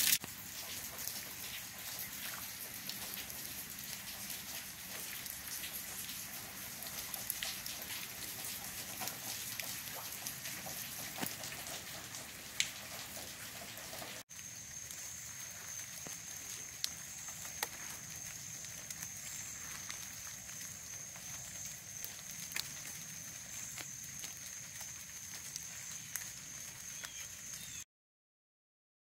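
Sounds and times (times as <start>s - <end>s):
light rain on grass and path: 0.0s - 27.8s.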